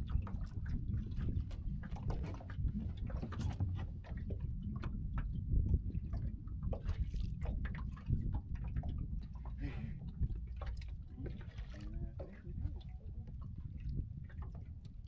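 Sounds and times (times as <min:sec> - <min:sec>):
low wind rumble: 0:00.0 - 0:15.0
water lapping around boat: 0:00.0 - 0:15.0.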